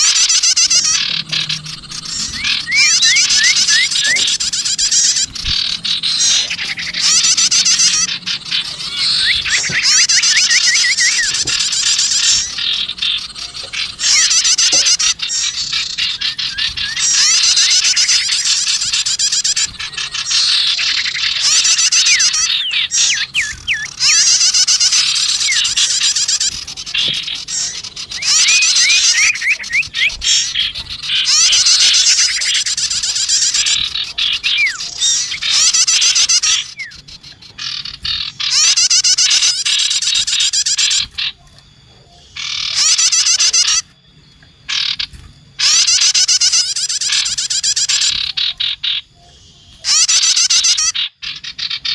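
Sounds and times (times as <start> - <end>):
songbird trills and chirps: 0.0 - 51.9.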